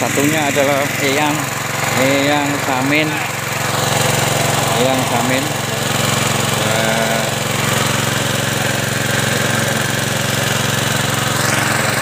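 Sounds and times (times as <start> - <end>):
small diesel engine running: 0.0 - 12.0.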